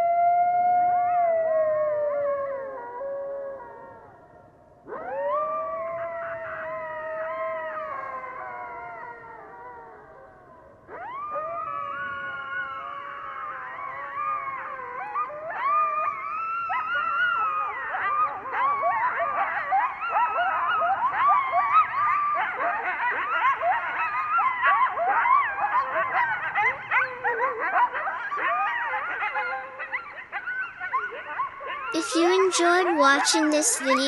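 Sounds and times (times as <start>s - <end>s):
coyotes howling and yipping: 0.0s - 34.0s.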